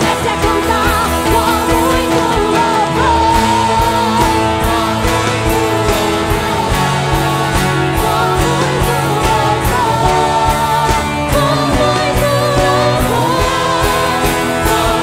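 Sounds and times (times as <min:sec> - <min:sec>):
acoustic guitar: 0:00.0 - 0:15.0
drum kit beat: 0:00.0 - 0:15.0
electric bass: 0:00.0 - 0:15.0
electric guitar: 0:00.0 - 0:15.0.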